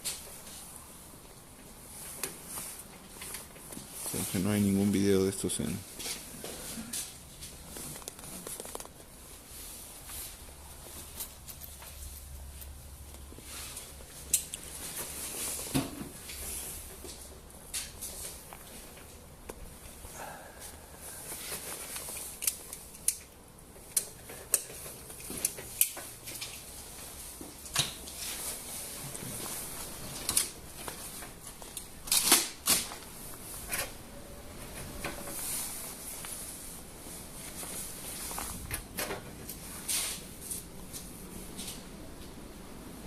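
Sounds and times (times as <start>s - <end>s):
light rustling of objects: 0.0s - 42.4s.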